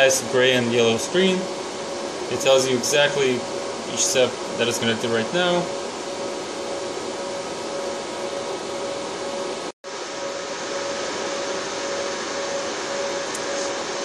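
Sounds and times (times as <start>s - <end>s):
server cooling fans rushing: 0.0s - 14.0s.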